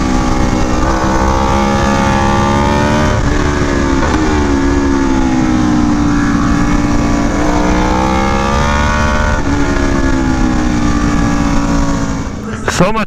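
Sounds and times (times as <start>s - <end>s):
heavy wind noise: 0.0s - 12.9s
motorcycle engine at speed: 0.0s - 13.0s.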